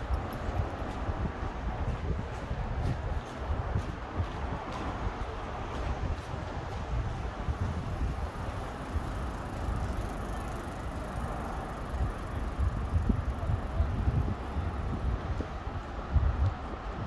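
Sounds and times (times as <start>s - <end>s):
distant road traffic: 0.0s - 17.0s
wind rumble on microphone: 0.0s - 17.0s.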